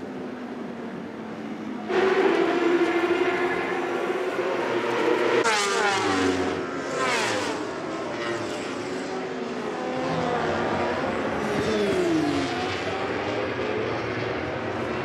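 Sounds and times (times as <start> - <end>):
racing motorbike engines revving: 0.9 - 15.0
motorbikes passing by: 2.3 - 15.0.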